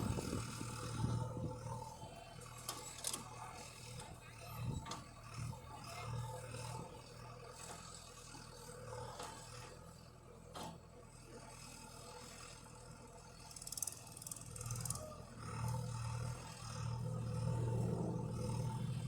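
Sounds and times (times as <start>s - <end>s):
tractor engine humming: 0.0s - 11.4s, 12.1s - 19.0s.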